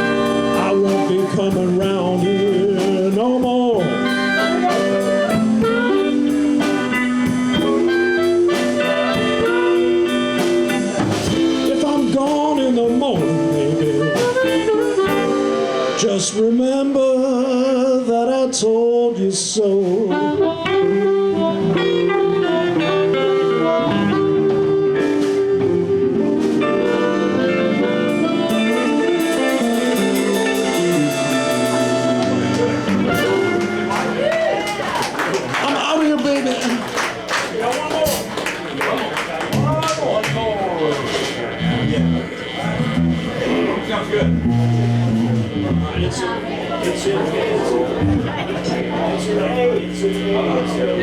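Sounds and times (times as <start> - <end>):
steady drum beats: 0.0 - 16.0, 21.8 - 51.0
blues harmonica bending notes: 0.0 - 16.4, 20.0 - 34.8, 39.6 - 51.0
bass: 0.0 - 36.0, 36.8 - 51.0
guitar: 0.0 - 51.0.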